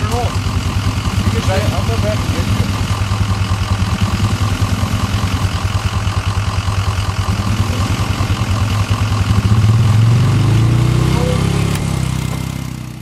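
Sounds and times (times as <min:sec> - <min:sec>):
atv engine idling and revving: 0:00.0 - 0:13.0.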